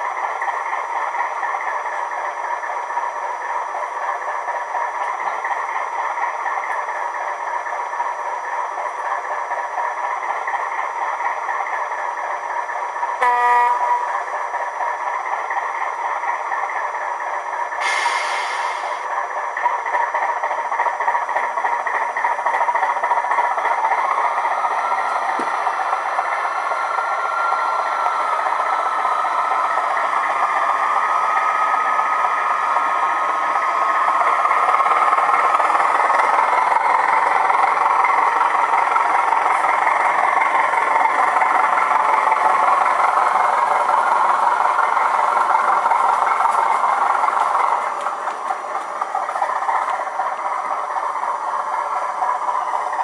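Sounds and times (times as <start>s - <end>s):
diesel engine chugging through speaker: 0.0s - 53.0s.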